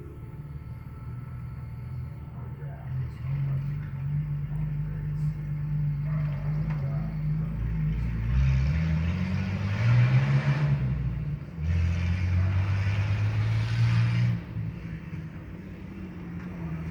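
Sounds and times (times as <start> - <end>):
unmuffled engine revving: 0.0 - 16.9.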